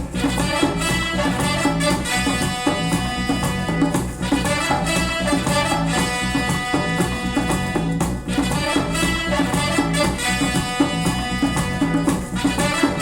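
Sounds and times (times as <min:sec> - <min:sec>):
instrumental music with steady beat: 0:00.0 - 0:13.0.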